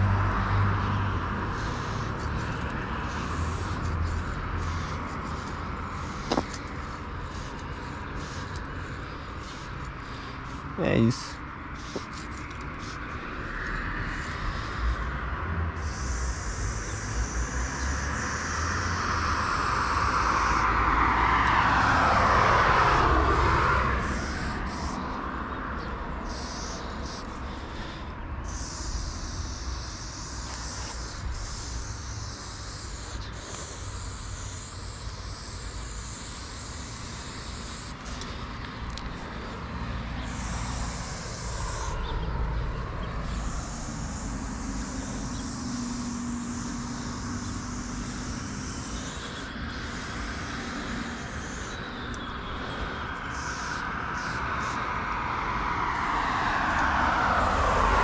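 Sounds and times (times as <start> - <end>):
spray paint can hissing: 0.8 - 55.1, 55.9 - 58.0.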